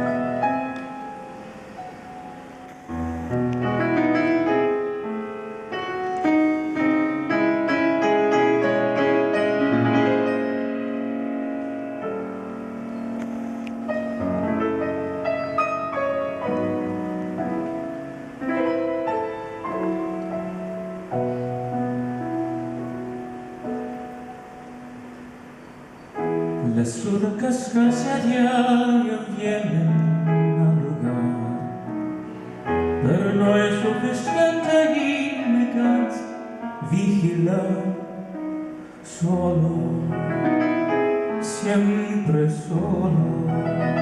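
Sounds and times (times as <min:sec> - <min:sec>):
solo piano playing: 0:00.0 - 0:44.0.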